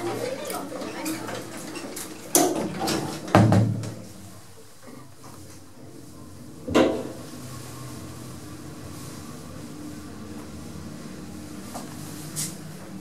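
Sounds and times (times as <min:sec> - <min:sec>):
indoor background noise: 0:00.0 - 0:13.0.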